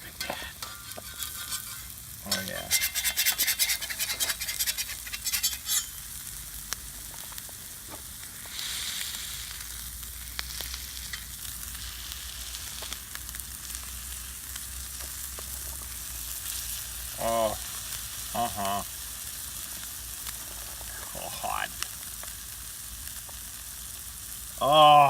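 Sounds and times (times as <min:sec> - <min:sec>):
cheese sizzling on a griddle: 0:00.0 - 0:25.0.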